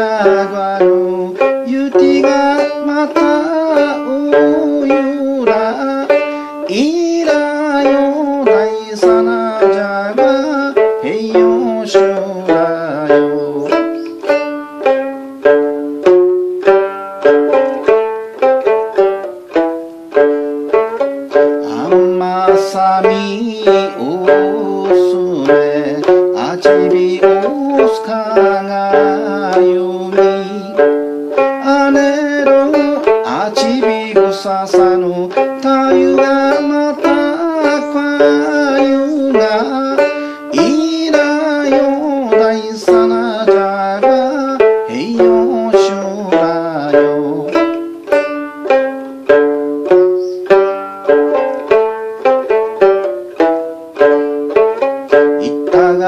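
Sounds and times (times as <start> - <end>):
plucked lute folk tune: 0.0 - 56.0.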